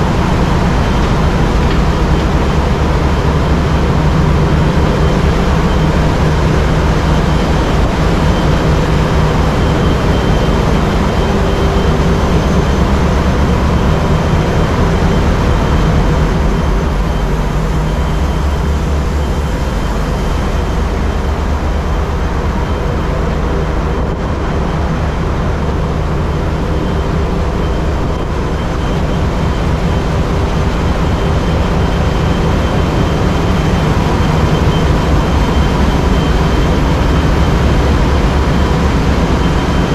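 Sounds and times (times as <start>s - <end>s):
diesel engines running: 0.0s - 39.9s
faint high whine: 0.0s - 39.9s
steady hums: 0.0s - 39.9s.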